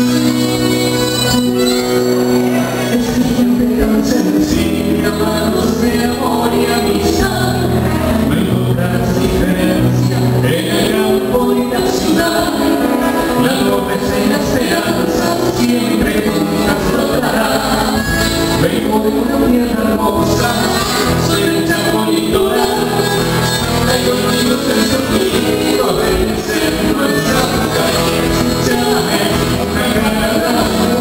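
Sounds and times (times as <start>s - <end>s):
accordion: 0.0s - 31.0s
acoustic guitars: 0.0s - 31.0s
person singing: 0.0s - 31.0s.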